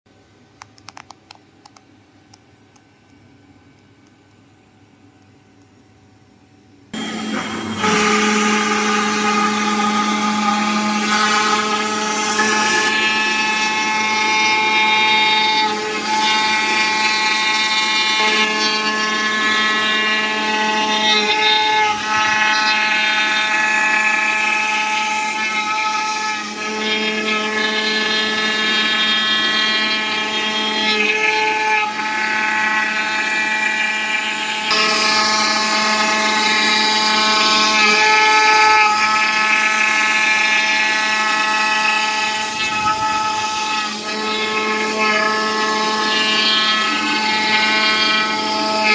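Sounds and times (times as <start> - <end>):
foam cutting machine whine: 6.9 - 48.9.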